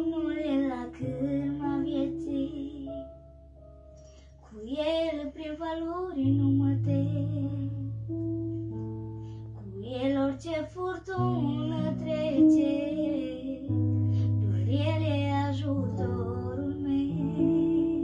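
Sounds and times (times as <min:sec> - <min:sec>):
girl singing: 0:00.0 - 0:03.2, 0:04.4 - 0:08.2, 0:09.6 - 0:18.0
electronic keyboard chords: 0:00.0 - 0:18.0.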